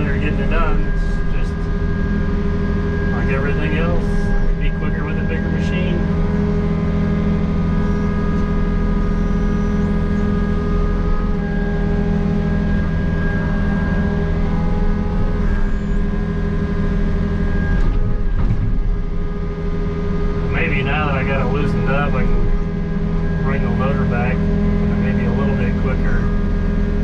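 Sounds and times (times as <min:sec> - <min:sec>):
excavator diesel engine running: 0:00.0 - 0:27.0
hydraulic whining: 0:00.0 - 0:27.0.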